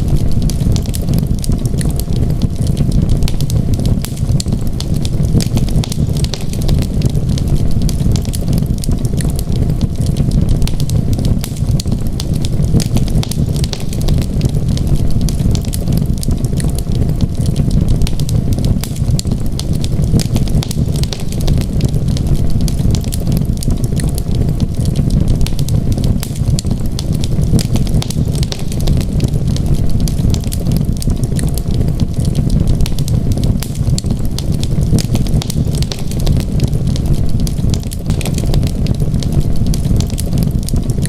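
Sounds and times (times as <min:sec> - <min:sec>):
low rumble of fire flames: 0:00.0 - 0:41.0
wood fire crackling and popping: 0:00.0 - 0:41.0.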